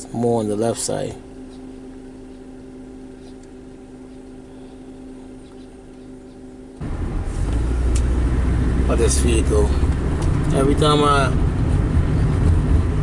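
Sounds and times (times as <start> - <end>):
car driving rumble: 0.0 - 13.0
car idling hum inside cabin: 0.0 - 13.0.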